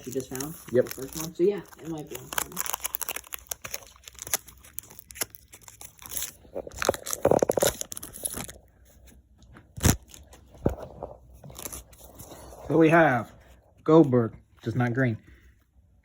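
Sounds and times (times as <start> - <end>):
foil wrappers crinkling: 0.0 - 13.1.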